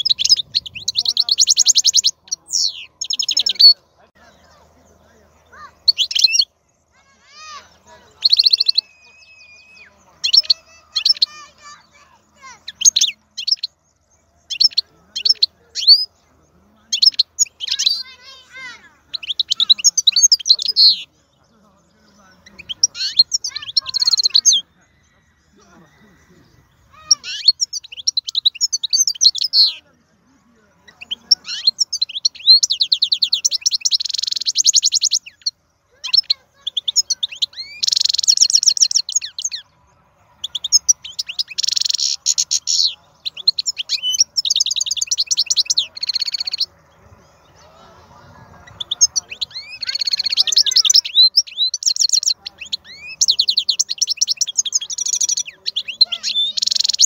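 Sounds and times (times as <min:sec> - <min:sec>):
goldfinch singing: 0:00.0 - 0:57.0.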